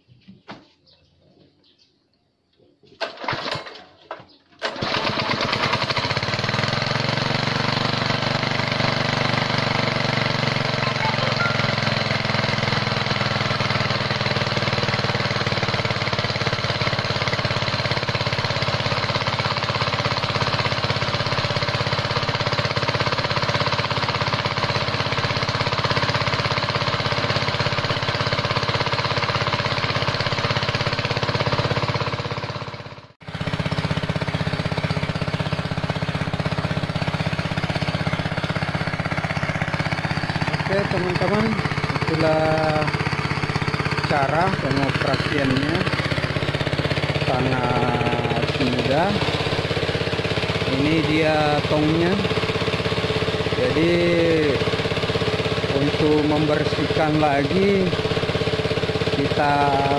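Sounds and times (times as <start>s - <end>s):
engine start bursts: 2.9s - 59.9s
small petrol engine running: 3.0s - 59.9s.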